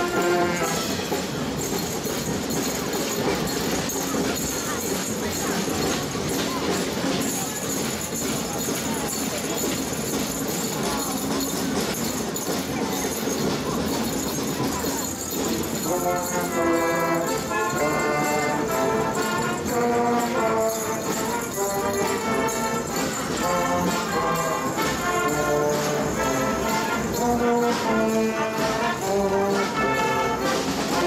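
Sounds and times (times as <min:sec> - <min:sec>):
marching band playing: 0:00.0 - 0:31.0
regular drum beat: 0:00.0 - 0:31.0.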